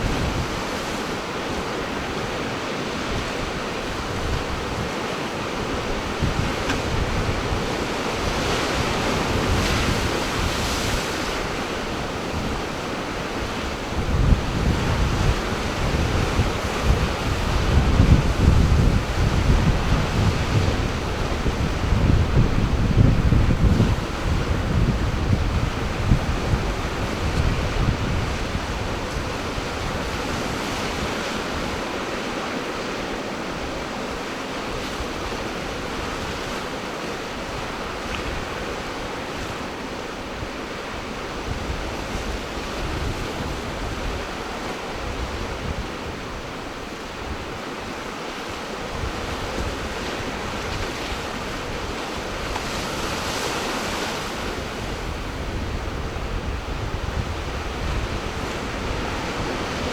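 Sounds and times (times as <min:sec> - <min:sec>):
ocean surf washing onto shore: 0:00.0 - 0:59.9
wind gusting across microphone: 0:00.0 - 0:59.9.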